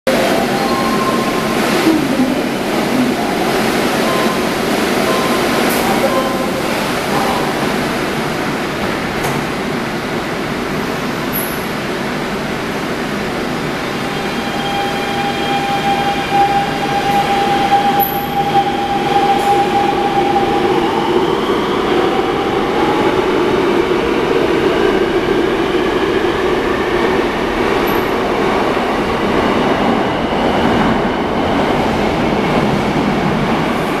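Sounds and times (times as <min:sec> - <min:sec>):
train wheels rumbling on rail: 0:00.1 - 0:34.0.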